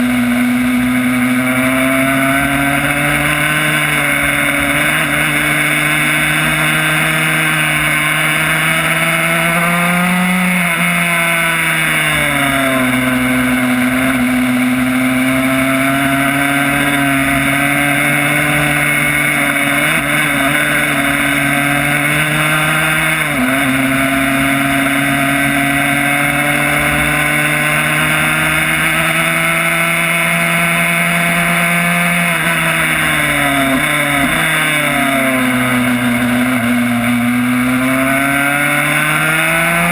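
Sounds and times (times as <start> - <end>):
two-stroke race bike engine: 0.0 - 39.9.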